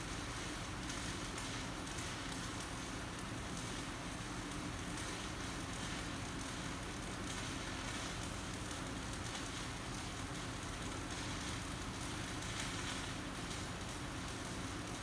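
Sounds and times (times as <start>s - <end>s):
welding arc crackling and hissing: 0.0s - 15.0s.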